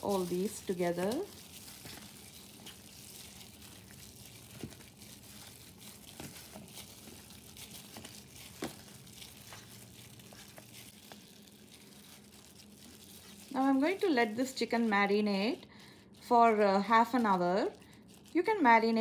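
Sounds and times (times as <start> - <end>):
plastic glove crinkling: 0.0 - 19.0.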